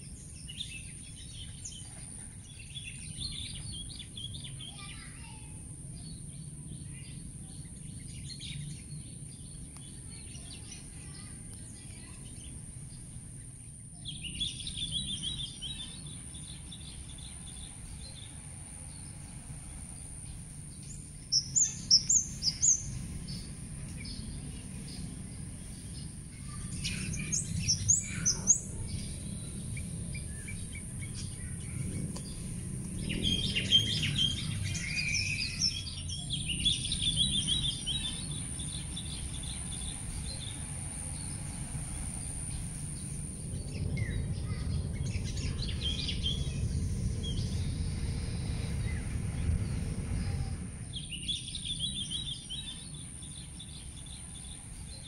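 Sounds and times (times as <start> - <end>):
faint high drone: 0.0 - 55.0
low background rumble: 0.0 - 55.0
small birds chirping: 0.0 - 55.0.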